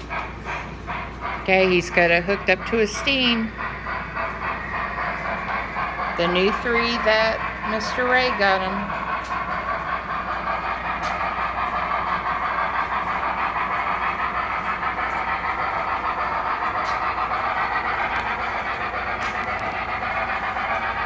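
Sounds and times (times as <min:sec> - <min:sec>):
model train motor and wheels whirring: 0:00.0 - 0:21.0.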